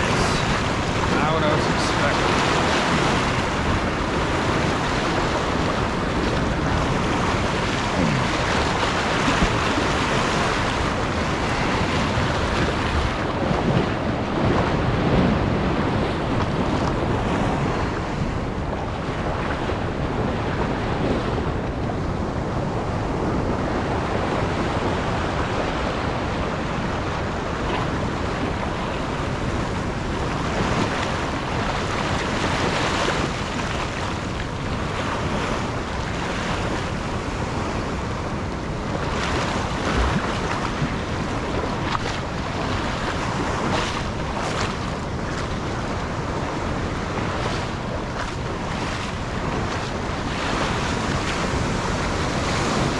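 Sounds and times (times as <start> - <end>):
surf washing among rocks: 0.0 - 52.9
wind buffeting microphone: 0.0 - 52.9.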